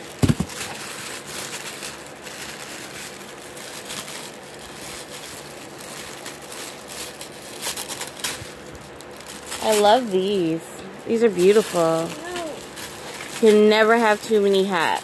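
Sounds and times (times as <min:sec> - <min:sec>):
tissue paper crinkling: 0:00.0 - 0:15.0.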